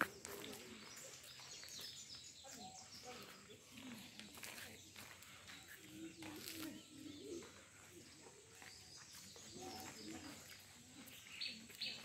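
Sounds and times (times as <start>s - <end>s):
birds in background: 0.0s - 12.0s.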